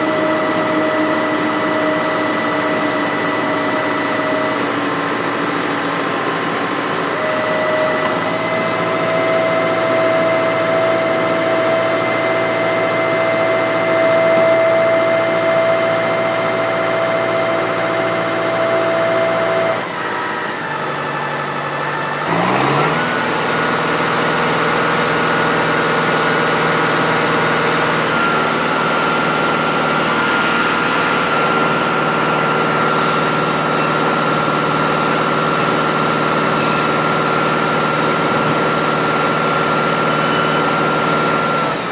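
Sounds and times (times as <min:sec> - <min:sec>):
manure spreader whining: 0:00.0 - 0:41.9.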